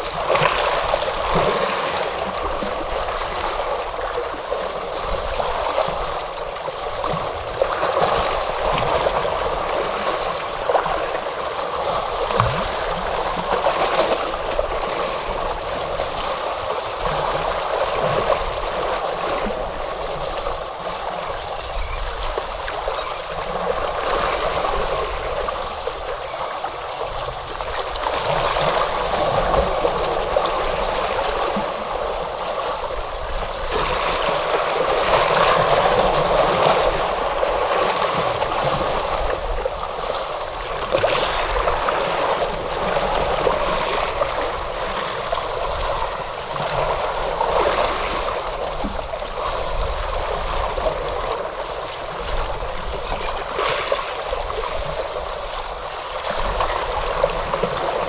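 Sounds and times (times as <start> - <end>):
ocean waves washing: 0.0 - 58.0.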